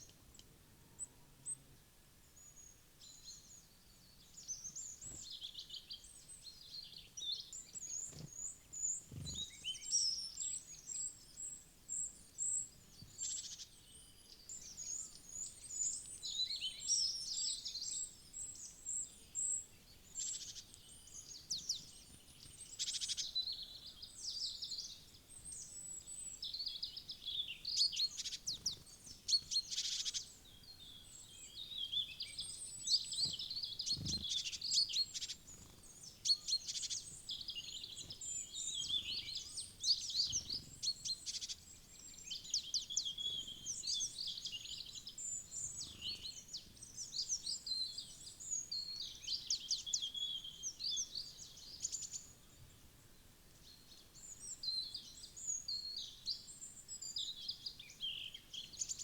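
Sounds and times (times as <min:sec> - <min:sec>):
songbirds chirping and calling: 0:02.3 - 0:52.8.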